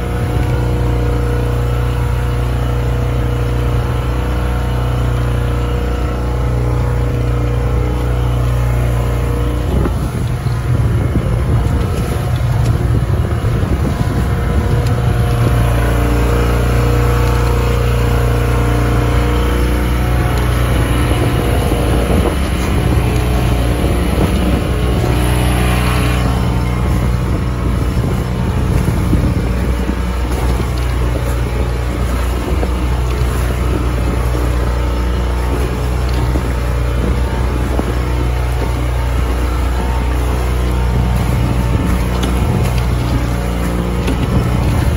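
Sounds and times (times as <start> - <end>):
boat motor running: 0.0 - 44.9
rushing water: 0.0 - 44.9
wind on microphone: 0.0 - 44.9.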